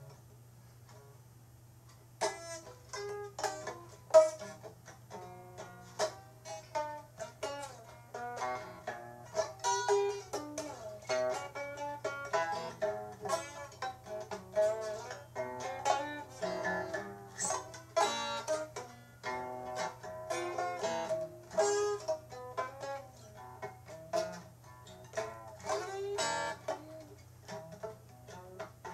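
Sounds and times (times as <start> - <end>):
plucked string instrument: 0.0 - 1.2, 2.2 - 28.9.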